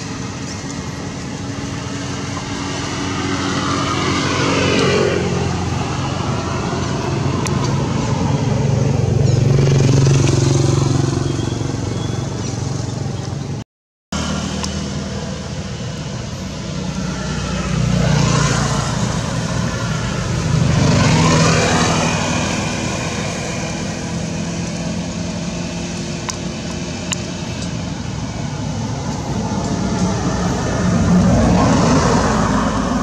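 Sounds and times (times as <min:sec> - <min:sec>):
traffic engine hum: 0:00.0 - 0:33.0
vehicles passing: 0:00.0 - 0:33.0.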